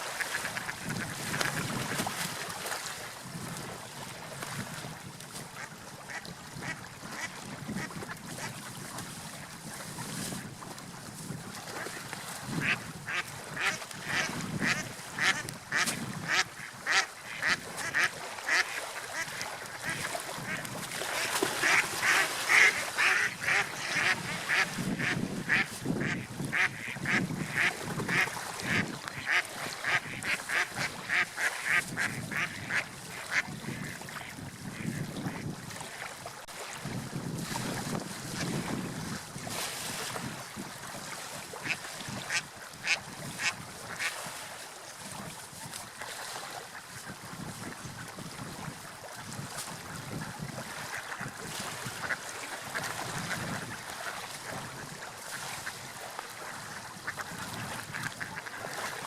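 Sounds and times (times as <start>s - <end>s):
waves washing: 0.0s - 59.0s.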